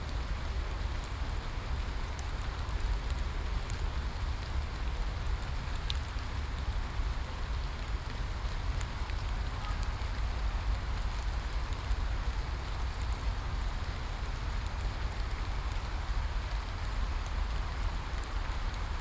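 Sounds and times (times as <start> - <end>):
steady rain hiss: 0.0 - 19.0
rain drop ticks: 0.1 - 19.0.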